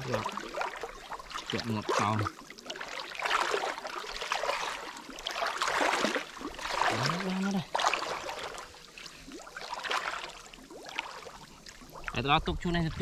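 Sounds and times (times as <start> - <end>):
pond water splashing: 0.0 - 13.0
small clicks and drips: 0.0 - 13.0.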